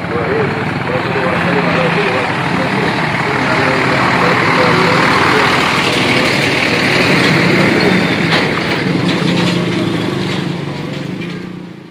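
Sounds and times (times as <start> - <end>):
diesel truck passing: 0.0 - 11.9
tyre and road noise: 0.0 - 11.9.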